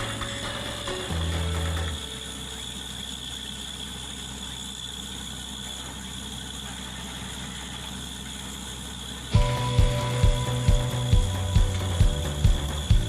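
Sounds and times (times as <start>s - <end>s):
engine humming with faint whine: 0.0s - 13.0s.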